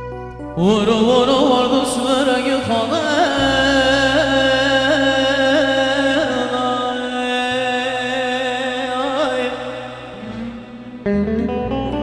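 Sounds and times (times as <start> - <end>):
folk song performed live: 0.0 - 12.0.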